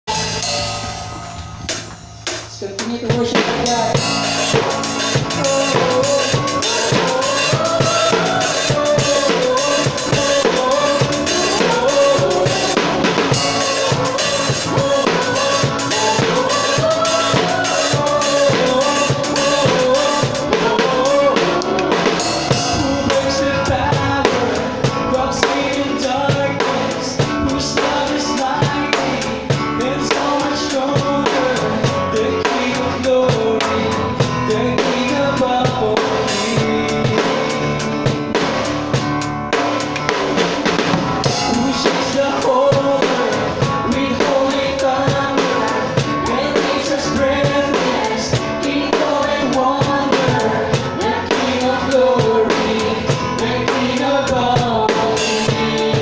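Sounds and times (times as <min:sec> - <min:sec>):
drum kit beat: 0:00.0 - 0:56.0
live band playing: 0:00.0 - 0:56.0.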